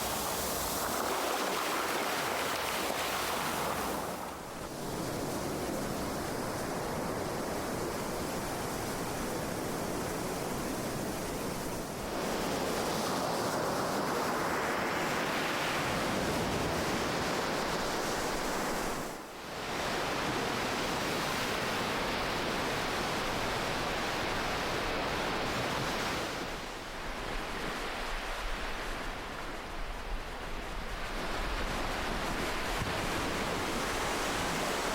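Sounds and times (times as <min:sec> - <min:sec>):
ocean waves washing onto shore: 0:00.0 - 0:34.9.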